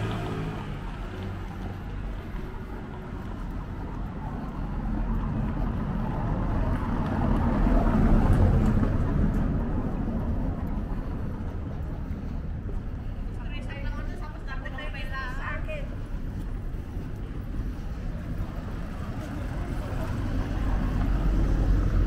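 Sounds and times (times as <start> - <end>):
vehicle passing: 0.0 - 22.0.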